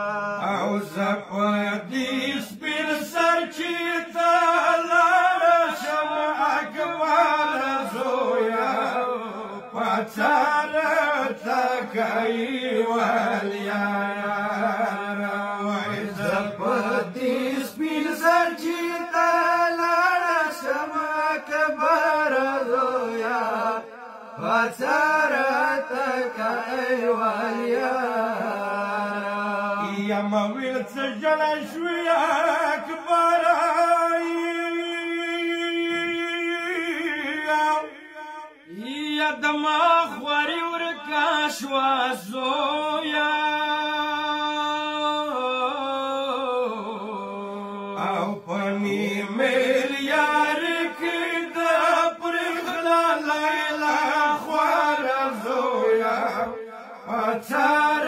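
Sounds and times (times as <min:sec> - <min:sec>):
men chanting a lament: 0:00.0 - 0:58.0.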